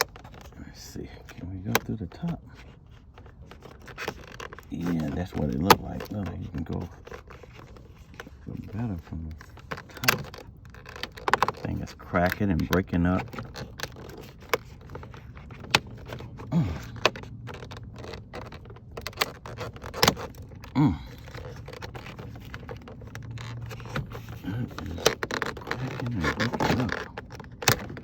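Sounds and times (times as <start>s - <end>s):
screwdriver scraping plastic: 0.0s - 28.0s
plastic clicks and cracks: 1.2s - 28.0s.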